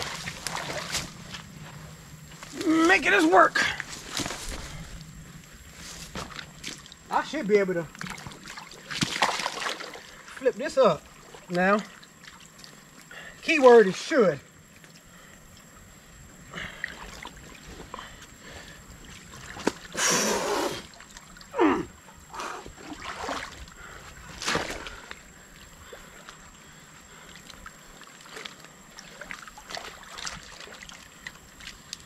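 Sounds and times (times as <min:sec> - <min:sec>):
creek water splashing: 0:00.0 - 0:32.0.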